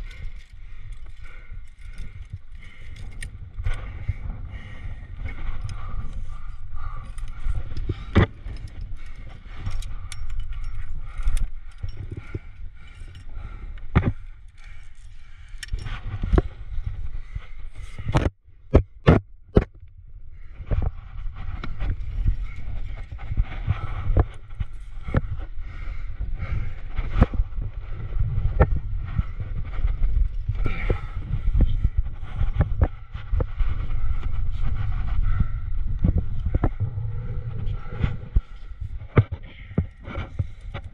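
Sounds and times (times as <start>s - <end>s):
climbing gear clinking: 0.0s - 18.2s, 21.4s - 40.9s
wind rumbling on microphone: 0.0s - 40.9s.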